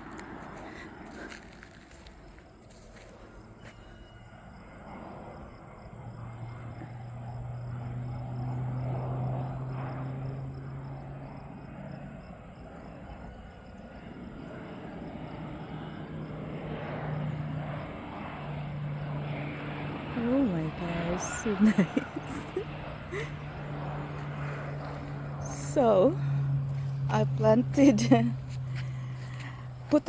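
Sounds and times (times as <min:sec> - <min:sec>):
airplane engine and propeller drone: 0:00.0 - 0:30.0.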